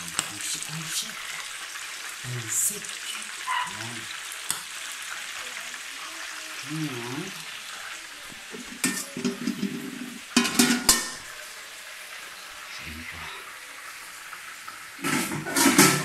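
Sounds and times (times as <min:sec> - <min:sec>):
fish grilling sizzle: 0:00.0 - 0:16.0.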